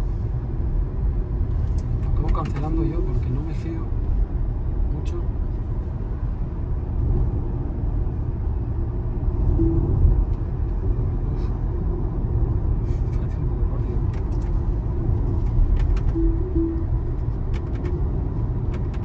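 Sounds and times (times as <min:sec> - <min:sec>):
road and tyre rumble in car: 0:00.0 - 0:19.0.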